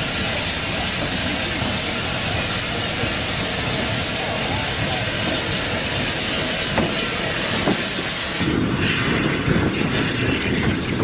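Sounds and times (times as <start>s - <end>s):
steam hissing: 0.0s - 11.0s
train rumble and rail noise: 0.0s - 11.0s.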